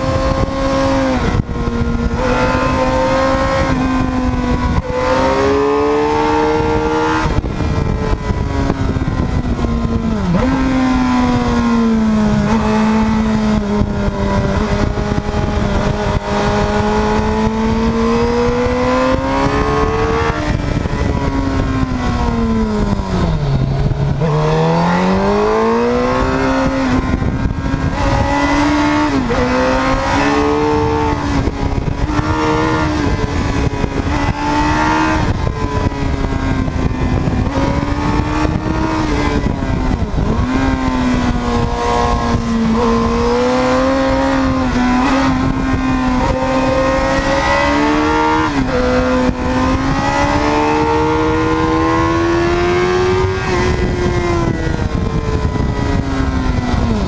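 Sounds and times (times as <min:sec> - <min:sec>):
motorcycle engine revving: 0:00.0 - 0:57.0
wind noise: 0:00.0 - 0:57.0.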